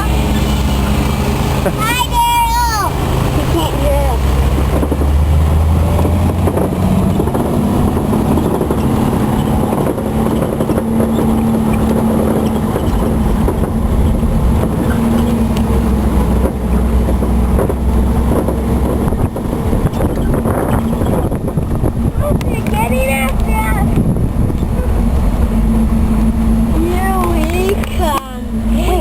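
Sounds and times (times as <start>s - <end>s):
vehicle engine low rumble: 0.0s - 29.0s.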